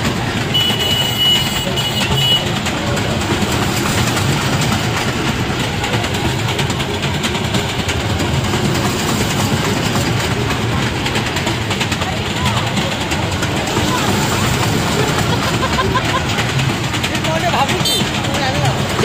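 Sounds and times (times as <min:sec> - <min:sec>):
train ride rumble: 0:00.0 - 0:19.0
wheels clattering on rails: 0:00.0 - 0:19.0.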